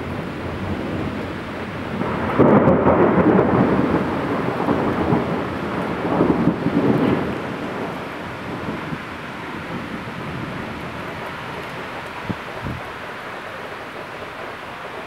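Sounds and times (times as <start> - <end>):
heavy rain falling: 0.0 - 15.0
thunder rumbling: 0.0 - 15.0.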